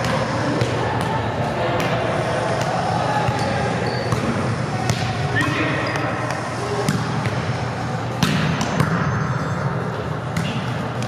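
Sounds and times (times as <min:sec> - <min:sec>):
gym hall din: 0:00.0 - 0:11.0.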